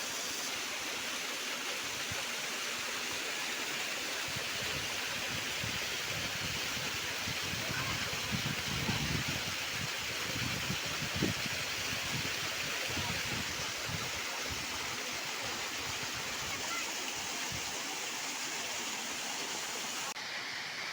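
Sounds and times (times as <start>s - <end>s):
stream rushing over its bed: 0.0s - 20.9s.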